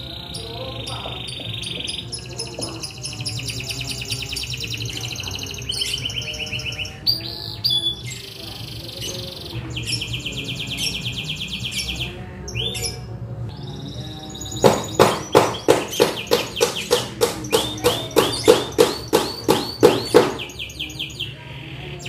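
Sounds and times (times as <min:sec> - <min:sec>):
canary singing trills: 0:00.0 - 0:22.0.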